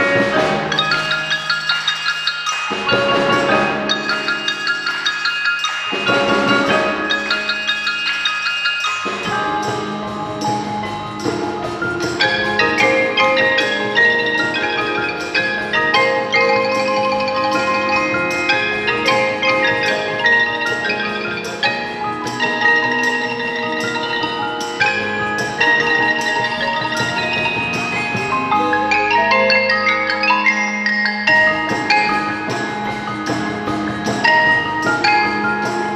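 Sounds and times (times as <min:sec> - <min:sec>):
mallet percussion ensemble: 0:00.0 - 0:35.9
sharp percussion strokes: 0:00.0 - 0:35.9.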